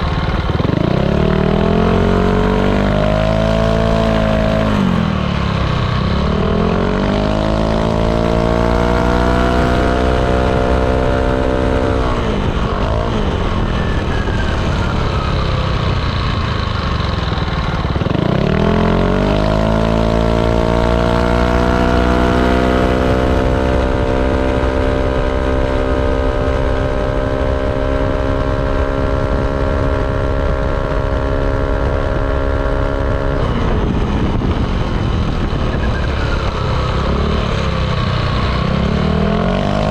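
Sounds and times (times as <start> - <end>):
scooter engine accelerating: 0.0 - 39.9.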